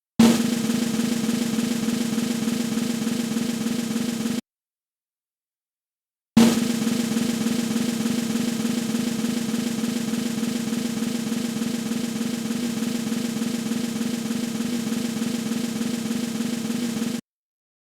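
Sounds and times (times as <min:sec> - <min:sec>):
snare drum roll: 0:00.2 - 0:04.4, 0:06.4 - 0:17.2.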